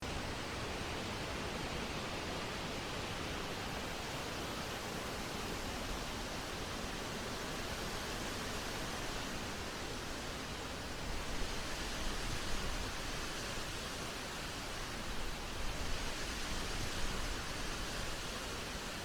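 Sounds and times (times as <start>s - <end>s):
wind blowing across microphone: 0.1s - 19.0s.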